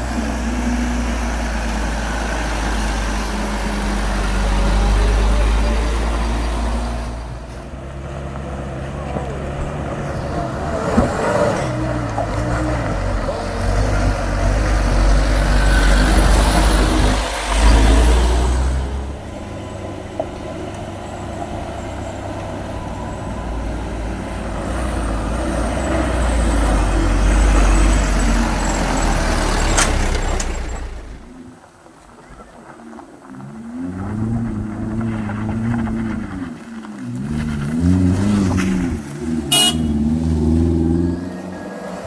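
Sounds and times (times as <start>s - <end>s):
diesel truck engine rumbling: 0.0s - 42.0s.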